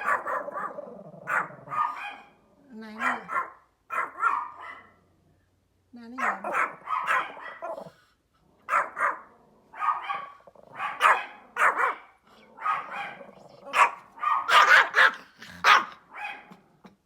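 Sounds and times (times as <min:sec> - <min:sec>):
small dog barking: 0:00.0 - 0:02.4, 0:03.0 - 0:05.0, 0:06.2 - 0:07.9, 0:08.6 - 0:16.6.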